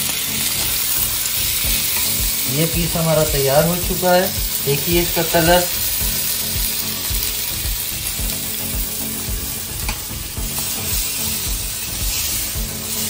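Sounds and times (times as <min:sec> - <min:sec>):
fries sizzling in hot oil: 0:00.0 - 0:13.0.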